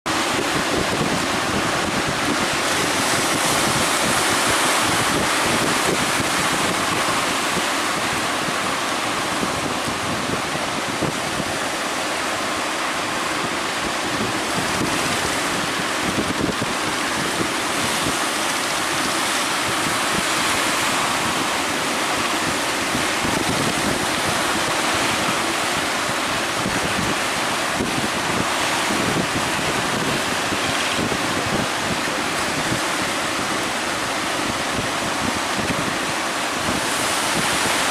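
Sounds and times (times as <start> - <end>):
surf breaking and rushing: 0.1 - 37.9
wind buffeting microphone: 0.1 - 37.9.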